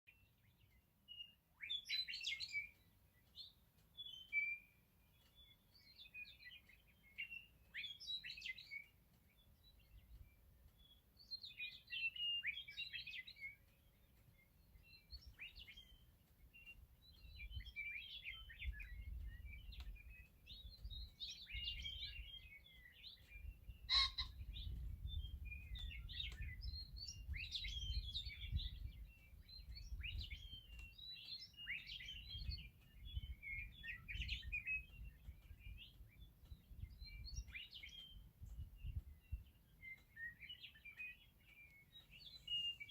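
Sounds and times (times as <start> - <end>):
meadowlarks singing: 0.1 - 42.9.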